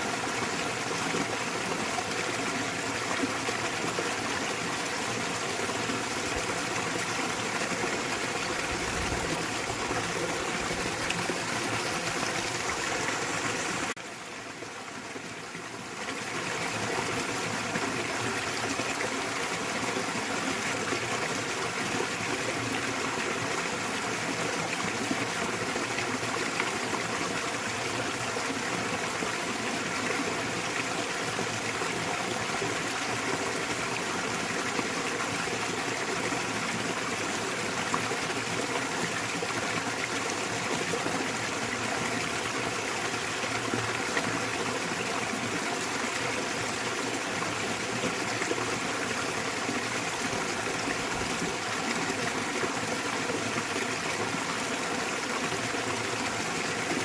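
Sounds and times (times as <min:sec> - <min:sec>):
small waterfall splashing: 0:00.0 - 0:57.0.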